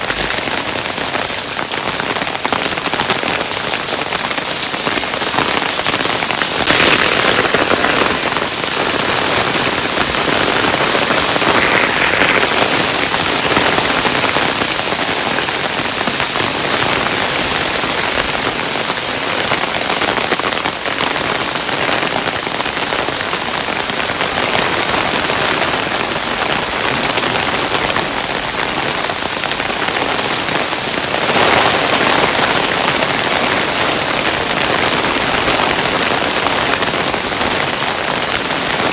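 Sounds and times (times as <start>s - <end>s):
hailstones pattering on hard surface: 0.0s - 38.9s.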